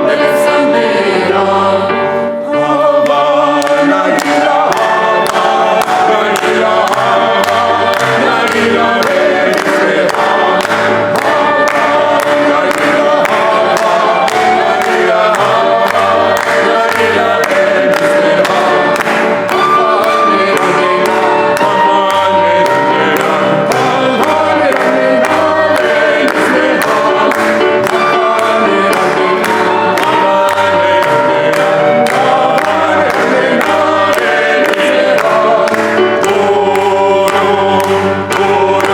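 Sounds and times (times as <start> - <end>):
vocal ensemble singing harmony: 0.0 - 38.9.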